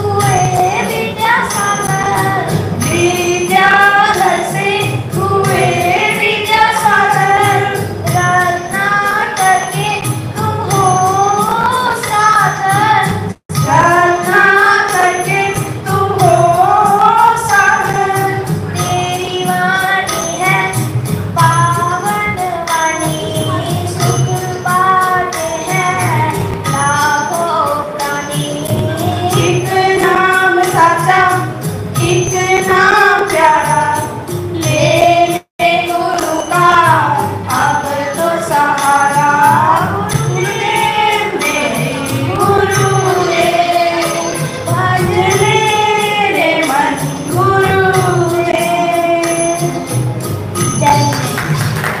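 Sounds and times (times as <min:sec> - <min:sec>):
boy singing into microphone: 0:00.0 - 0:49.9
steady percussion beat: 0:00.0 - 0:52.0.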